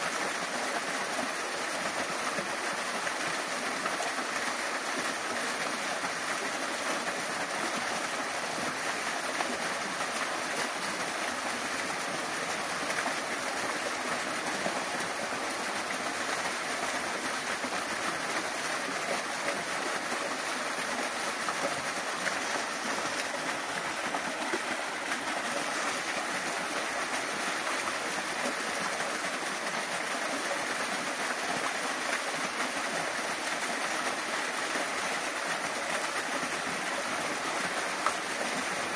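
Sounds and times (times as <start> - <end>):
waterfall splashing into pool: 0.0 - 38.9.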